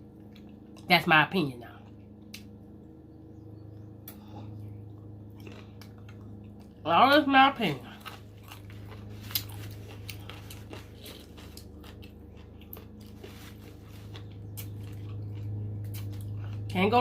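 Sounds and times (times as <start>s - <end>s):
chewing crunchy food: 0.0s - 1.0s, 1.8s - 16.8s
low hum: 0.0s - 17.0s.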